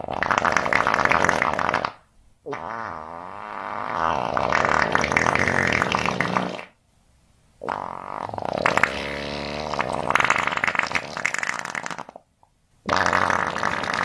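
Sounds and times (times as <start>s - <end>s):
long farts: 0.0s - 6.8s, 7.6s - 14.0s.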